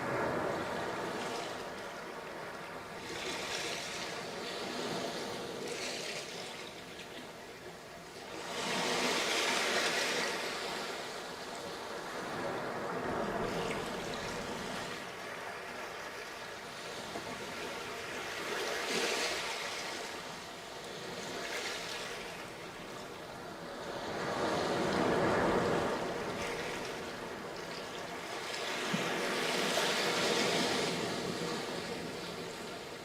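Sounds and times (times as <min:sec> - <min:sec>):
small waves breaking on sand: 0:00.0 - 0:33.0.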